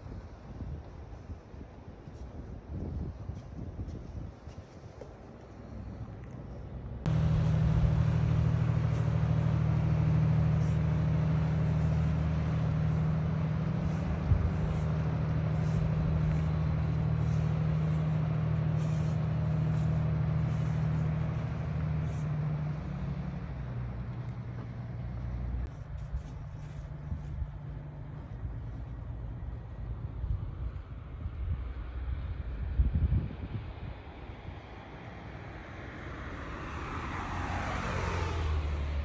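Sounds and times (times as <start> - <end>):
ferry engine droning: 5.4 - 39.0.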